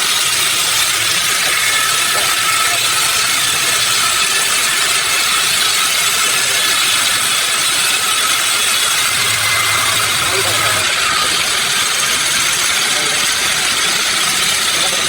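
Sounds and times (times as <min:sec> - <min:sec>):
sawmill machinery whirring: 0:00.0 - 0:15.0.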